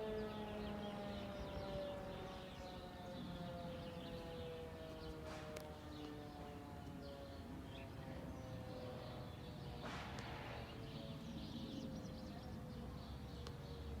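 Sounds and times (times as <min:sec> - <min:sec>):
distant warning siren: 0:00.0 - 0:14.0
small birds chirping: 0:00.0 - 0:14.0.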